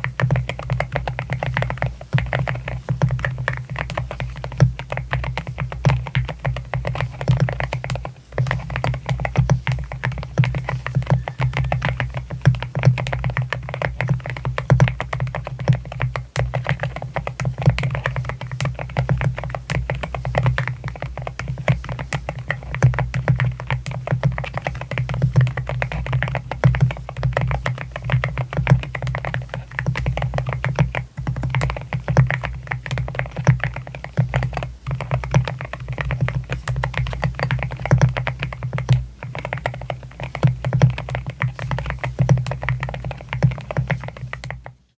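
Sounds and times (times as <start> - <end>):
rapid mechanical keyboard typing: 0.0 - 44.9.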